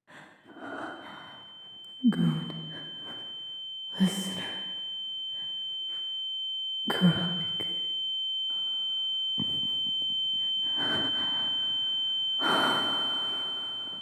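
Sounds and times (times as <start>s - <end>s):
high-pitched ringing tone: 0.1s - 14.0s.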